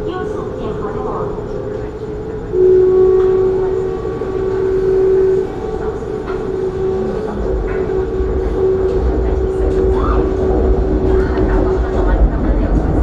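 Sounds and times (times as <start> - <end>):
train rumble: 0.0 - 13.0
train whine: 0.0 - 13.0.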